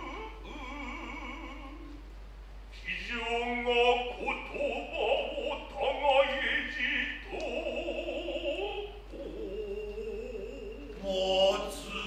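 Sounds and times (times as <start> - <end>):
person chanting with vibrato: 0.0 - 2.0, 2.8 - 12.0.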